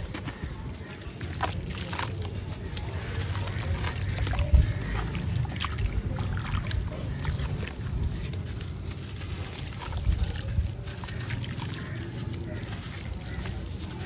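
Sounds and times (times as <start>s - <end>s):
sand-cement chunks crackling: 0.0s - 14.0s.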